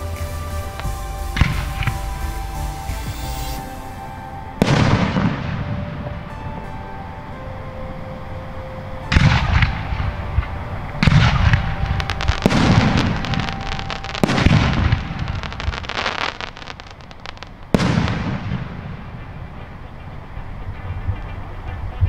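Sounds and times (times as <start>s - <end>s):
fireworks booming: 0.0s - 6.4s, 9.1s - 21.5s
fireworks crackling: 0.0s - 7.3s, 9.1s - 22.0s.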